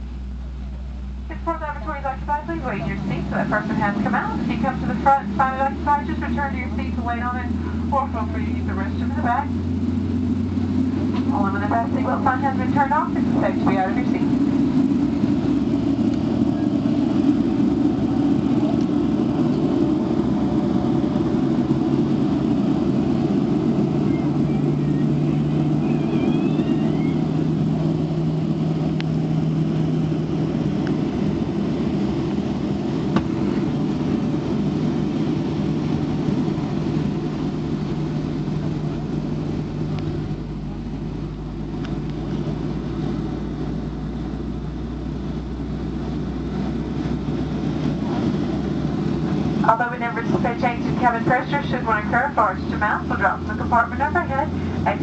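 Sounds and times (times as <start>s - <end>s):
airliner cabin rushing and humming: 0.0s - 55.0s.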